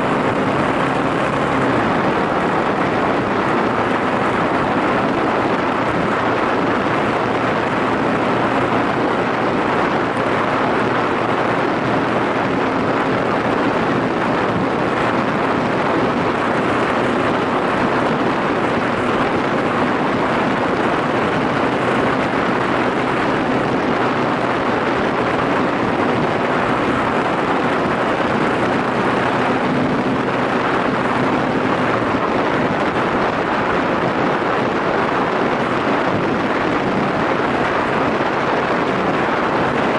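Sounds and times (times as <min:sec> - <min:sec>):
motorcycle engine running: 0:00.0 - 0:34.0
wind rush on microphone: 0:00.0 - 0:39.9.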